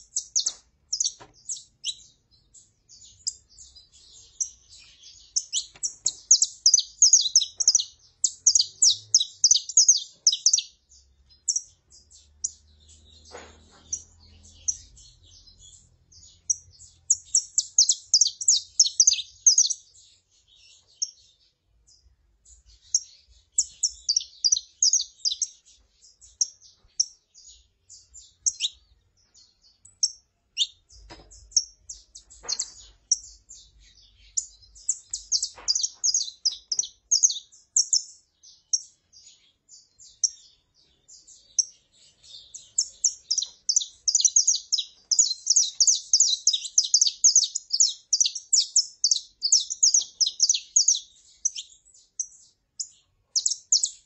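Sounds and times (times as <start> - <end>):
finches chirping and singing: 0.0 - 54.0.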